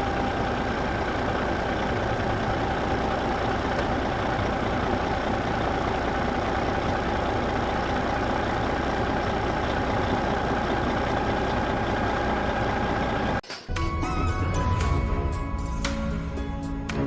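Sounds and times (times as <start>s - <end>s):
engine running hum: 0.0s - 17.0s.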